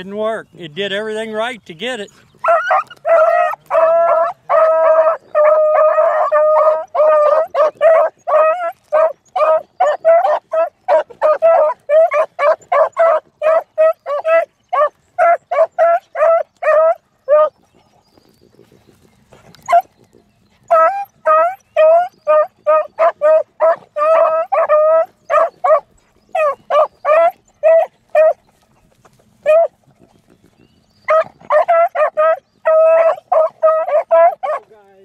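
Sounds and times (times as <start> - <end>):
dogs baying: 2.0 - 34.9.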